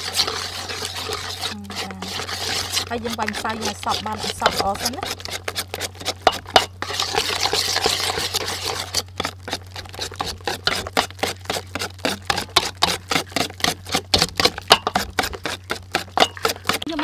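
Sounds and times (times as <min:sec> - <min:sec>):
whisk clicking against metal bowl: 0:00.0 - 0:17.0.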